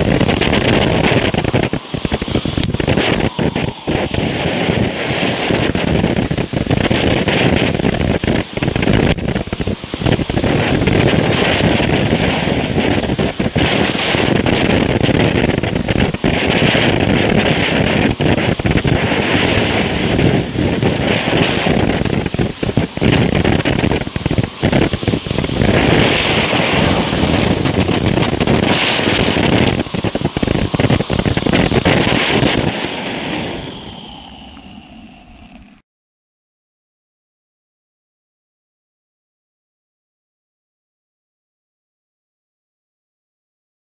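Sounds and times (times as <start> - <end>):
firework fountain hissing and crackling: 0.0 - 35.8.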